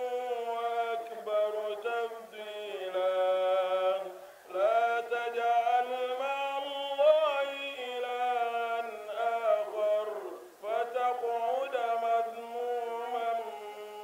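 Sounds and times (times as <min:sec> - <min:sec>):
man chanting solo: 0:00.0 - 0:14.0.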